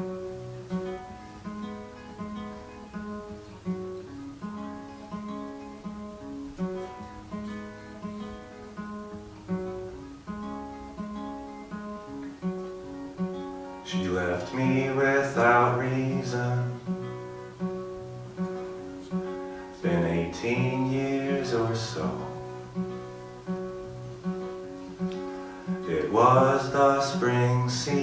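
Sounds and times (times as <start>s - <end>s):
solo acoustic guitar: 0.0s - 28.0s.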